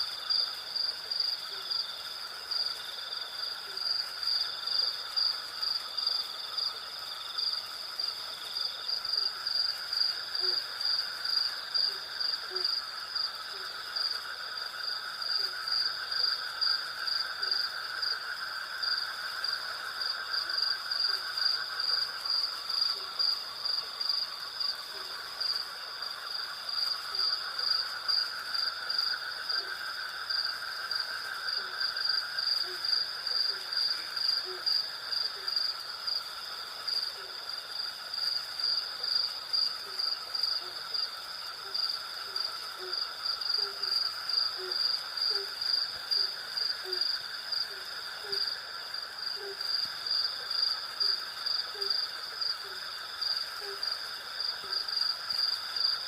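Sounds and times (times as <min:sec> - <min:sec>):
crickets chirring: 0:00.0 - 0:56.0
insects buzzing: 0:00.0 - 0:56.0.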